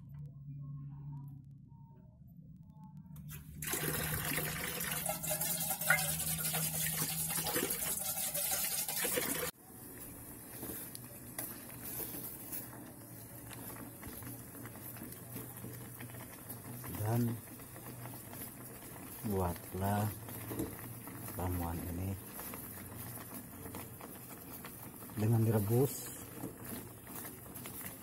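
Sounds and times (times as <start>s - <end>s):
water pouring and splashing: 3.3s - 28.0s.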